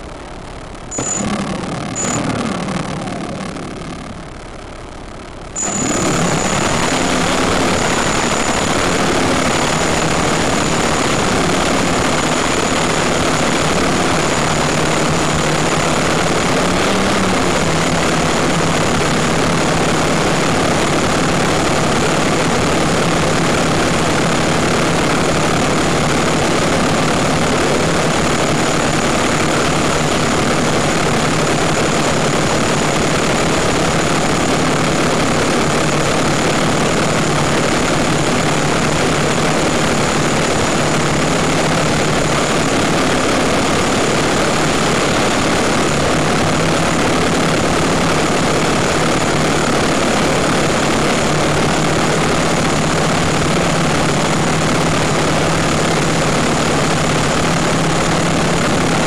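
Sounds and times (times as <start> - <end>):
drone motors and propellers: 0.0 - 59.0.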